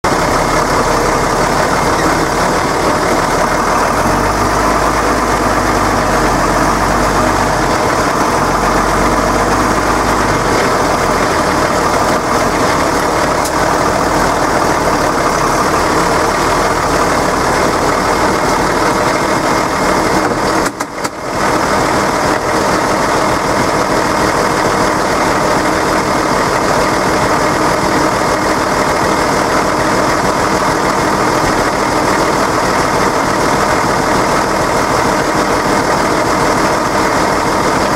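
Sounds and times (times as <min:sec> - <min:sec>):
diesel tractor engine running: 0:00.0 - 0:37.9.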